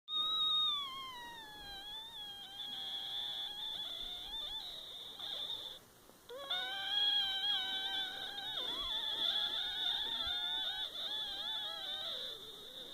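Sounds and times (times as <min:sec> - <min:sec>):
person squealing: 0:00.1 - 0:12.9.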